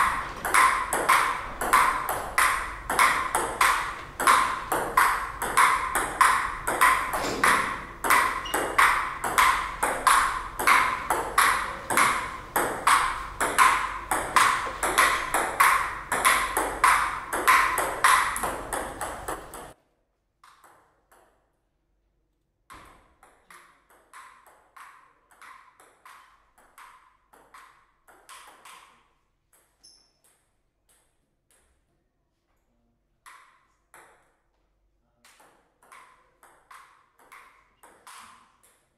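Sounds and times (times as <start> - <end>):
table tennis ball clicking: 0.1 - 19.8, 22.7 - 31.8, 35.3 - 38.9.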